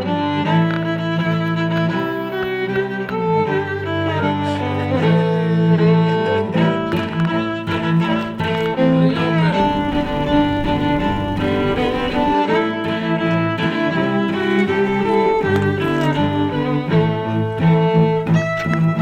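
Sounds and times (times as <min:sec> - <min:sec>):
violin and cello melody: 0:00.0 - 0:19.0.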